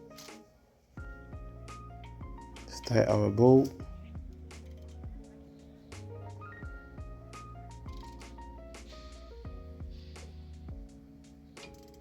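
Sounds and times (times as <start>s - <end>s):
instrumental music with light beat: 0.0s - 12.0s.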